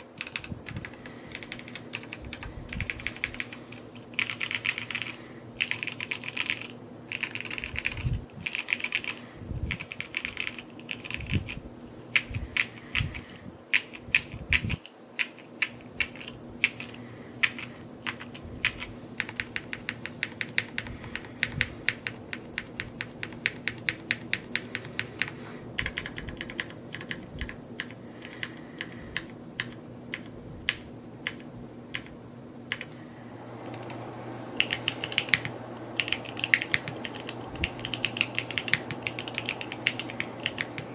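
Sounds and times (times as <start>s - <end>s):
mechanical keyboard typing: 0.0s - 11.6s, 13.7s - 32.9s, 33.6s - 34.0s, 34.6s - 40.9s.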